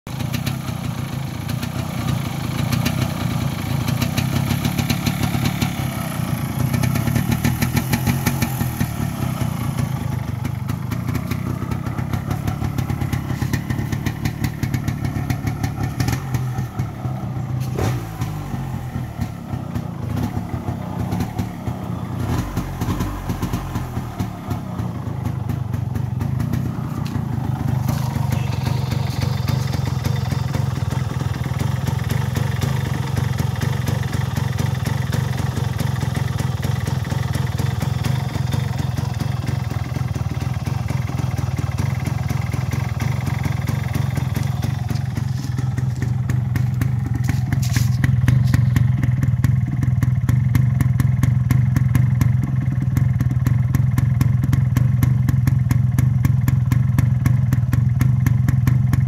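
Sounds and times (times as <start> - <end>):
two-stroke motorcycle engine idling: 0.1 - 59.0.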